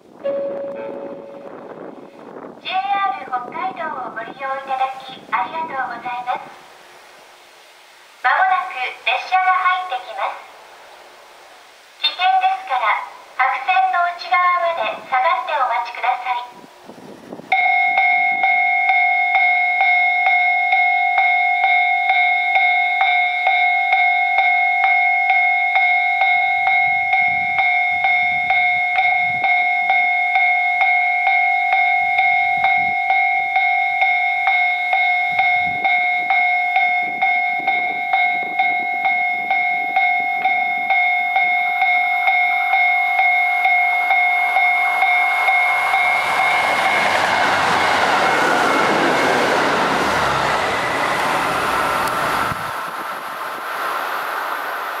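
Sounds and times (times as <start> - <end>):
train running noise: 0.0 - 55.0.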